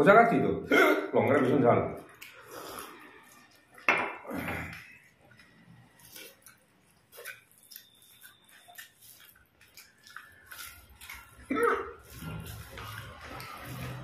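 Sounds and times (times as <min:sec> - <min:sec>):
chewing mouth noises: 0:02.0 - 0:03.9, 0:04.6 - 0:14.0.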